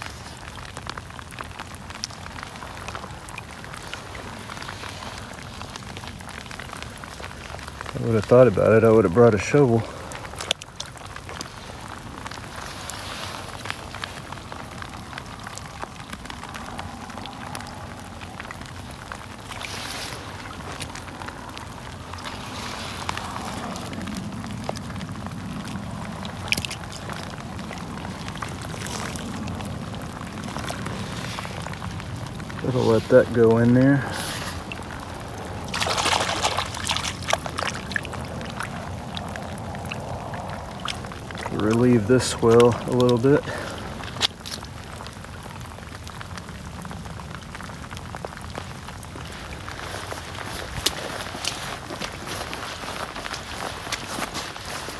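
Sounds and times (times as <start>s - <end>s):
mud squelching: 0.0s - 54.9s
rainwater trickling and splashing: 0.0s - 54.9s.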